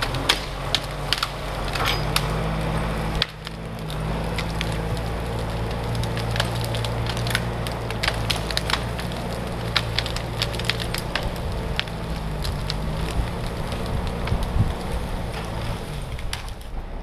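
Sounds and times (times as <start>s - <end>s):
branches snapping and crackling: 0.0s - 17.0s
diesel engine running: 0.0s - 17.0s.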